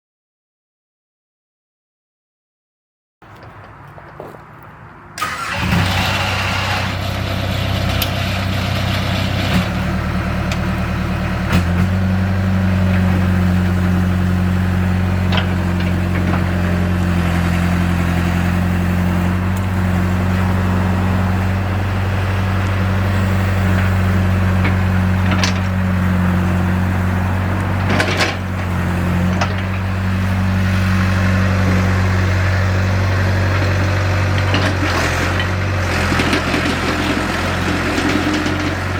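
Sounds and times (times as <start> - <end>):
excavator diesel engine running: 3.2 - 38.9.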